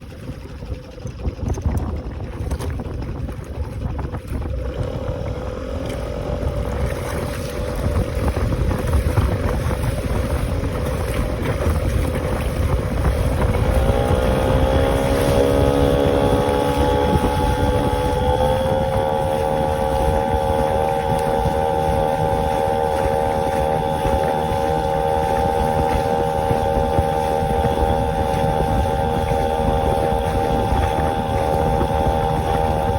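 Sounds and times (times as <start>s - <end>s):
kayak motor running: 0.0s - 32.9s
wind buffeting microphone: 0.0s - 32.9s.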